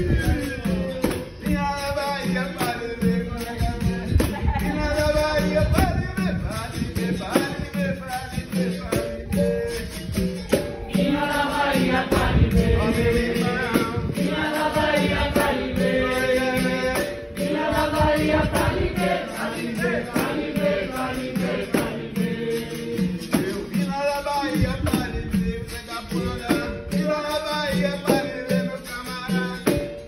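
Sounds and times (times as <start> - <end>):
group singing: 0.0 - 5.8, 6.7 - 29.8
tambourine beat: 0.0 - 30.0.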